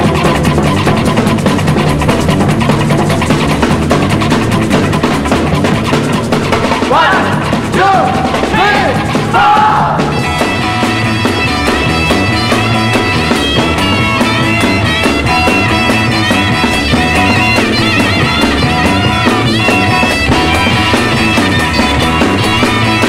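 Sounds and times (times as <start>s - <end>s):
garage rock band instrumental: 0.0s - 23.0s
steady drum beat: 0.0s - 23.0s.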